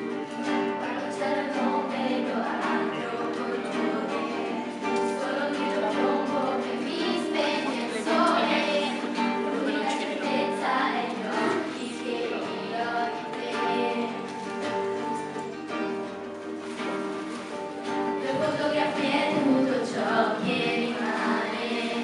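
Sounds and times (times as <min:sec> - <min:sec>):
young voices singing together: 0:00.0 - 0:16.8, 0:17.4 - 0:22.0
instrumental accompaniment: 0:00.0 - 0:22.0.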